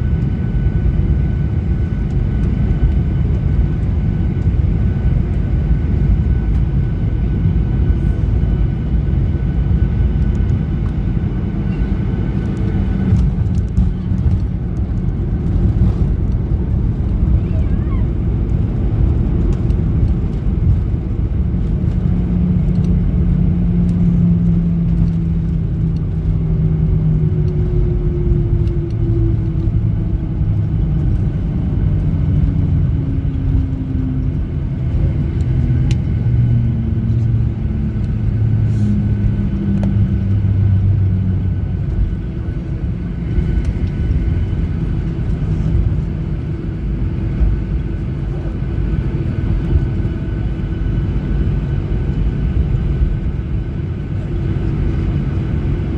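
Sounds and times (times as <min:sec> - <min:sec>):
airplane cabin rumble: 0:00.0 - 0:55.9
jet engines winding down: 0:00.0 - 0:55.9.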